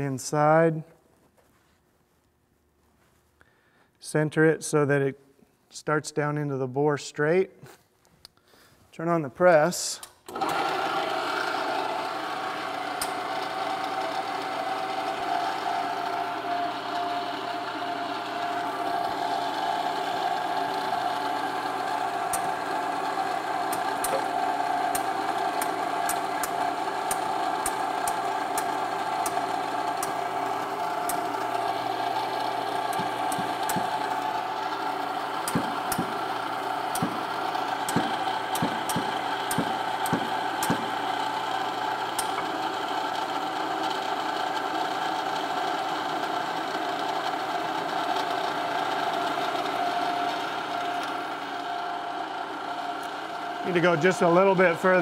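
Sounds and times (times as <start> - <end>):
shop press motor hum: 10.0 - 55.0.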